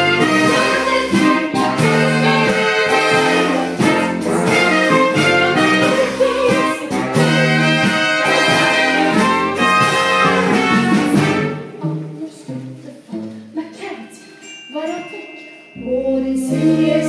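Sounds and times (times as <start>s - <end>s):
live jazz band playing: 0.0s - 13.6s, 15.8s - 17.0s.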